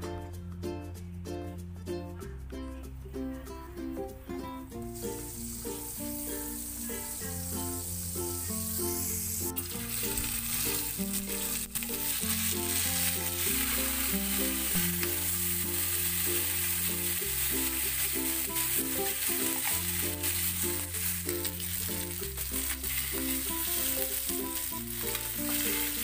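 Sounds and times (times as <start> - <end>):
background music: 0.0 - 26.0
chicken sizzling in a pan: 5.0 - 26.0.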